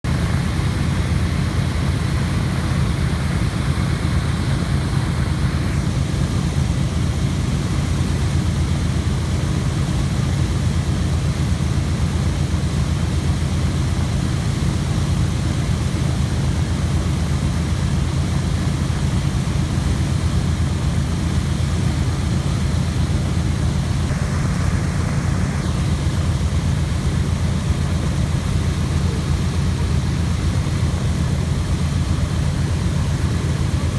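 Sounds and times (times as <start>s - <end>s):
propeller aircraft engines droning: 0.0s - 33.9s.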